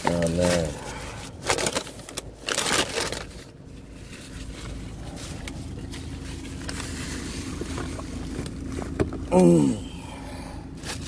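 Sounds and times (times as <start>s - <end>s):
paper bag rustling and crinkling: 0.0s - 9.0s
steady hum: 0.0s - 11.0s.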